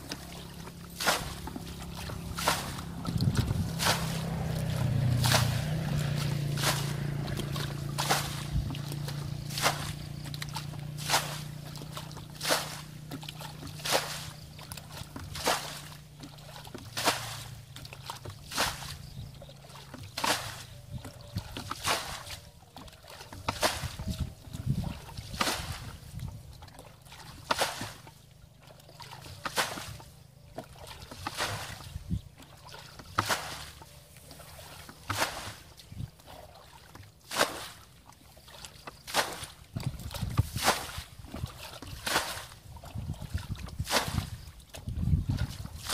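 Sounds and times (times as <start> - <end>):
bucket scooping and splashing water: 0.0 - 45.9.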